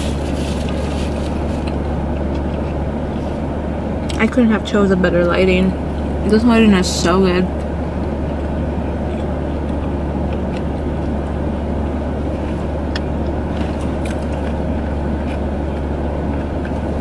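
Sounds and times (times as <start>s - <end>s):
car air conditioning hum: 0.0s - 17.0s.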